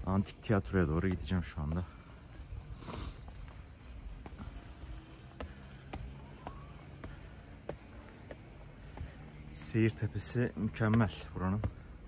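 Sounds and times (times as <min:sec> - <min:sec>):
footsteps on steps: 0:00.0 - 0:12.0
insects chirping: 0:00.0 - 0:12.0.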